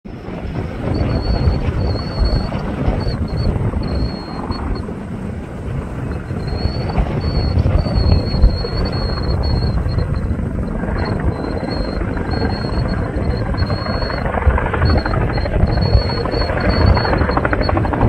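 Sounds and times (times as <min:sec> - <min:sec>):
helicopter rotor rumble: 0:00.1 - 0:18.0
high whine: 0:00.1 - 0:18.0.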